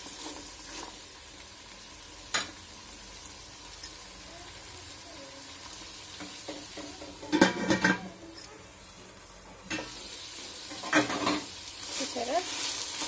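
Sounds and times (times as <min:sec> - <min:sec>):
vegetables sizzling softly: 0:00.0 - 0:13.0.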